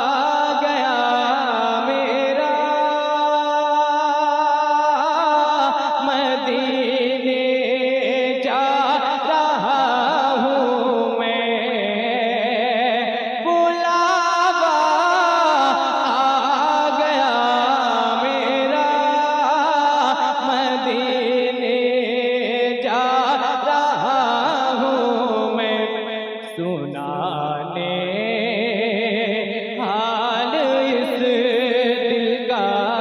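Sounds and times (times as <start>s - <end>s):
man singing over loudspeakers: 0.0s - 33.0s.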